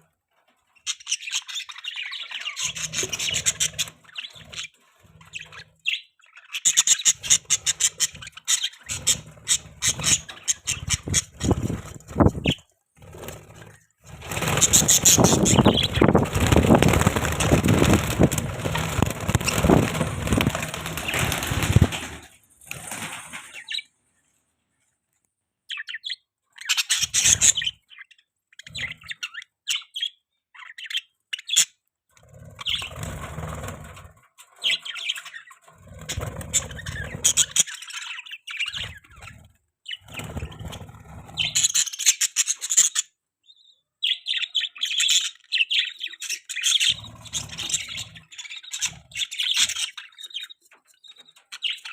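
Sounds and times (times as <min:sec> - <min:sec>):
budgerigars chirping: 0:00.8 - 0:21.9, 0:25.7 - 0:31.8, 0:32.5 - 0:33.4, 0:34.5 - 0:51.9.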